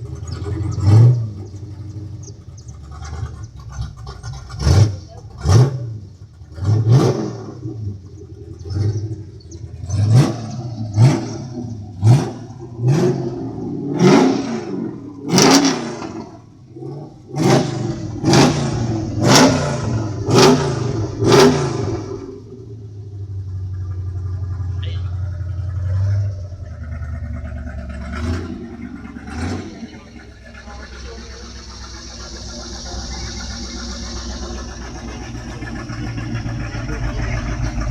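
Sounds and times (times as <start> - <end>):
pickup engine revving and idling: 0.0 - 37.9.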